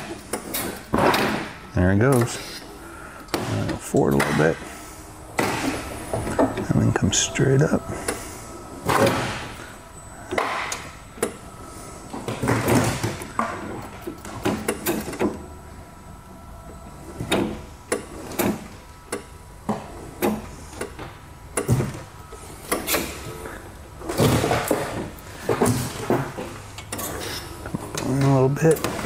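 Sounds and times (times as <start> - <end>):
knocks and clunks: 0.0 - 2.6, 3.2 - 11.4, 12.1 - 15.5, 17.2 - 29.0.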